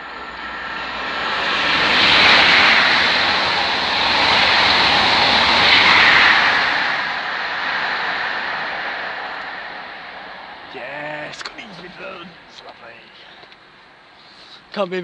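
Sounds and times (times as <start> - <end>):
train passing: 0.0 - 14.2.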